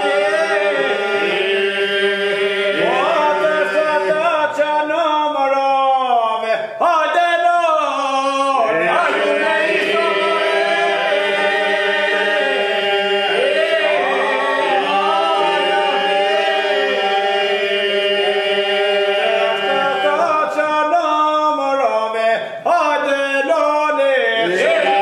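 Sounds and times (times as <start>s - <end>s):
men singing polyphony a cappella: 0.0s - 25.0s.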